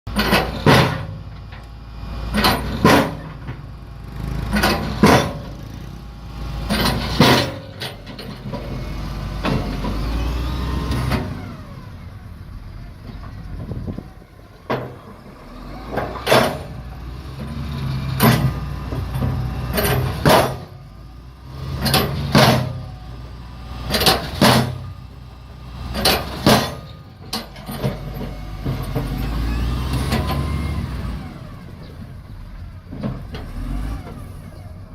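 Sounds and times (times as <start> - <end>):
heavy engine running: 0.1 - 34.9.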